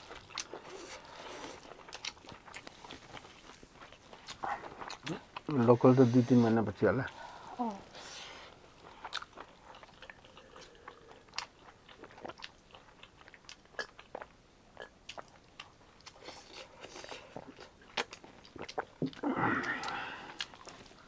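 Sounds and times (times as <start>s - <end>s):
person chewing: 0.0s - 6.2s, 7.1s - 21.0s.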